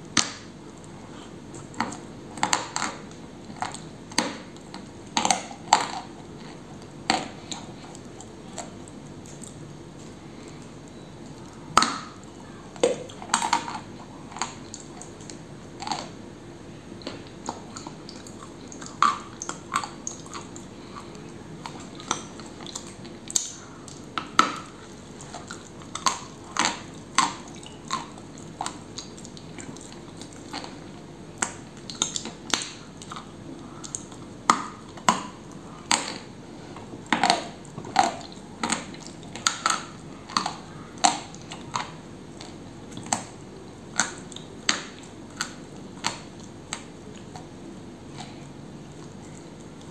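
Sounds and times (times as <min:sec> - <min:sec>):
quiet chewing: 0:00.3 - 0:49.9.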